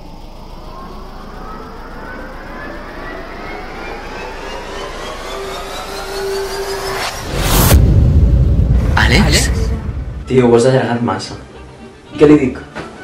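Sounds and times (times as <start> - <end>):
low rumble: 0.0 - 11.3
rising whine: 0.0 - 11.9.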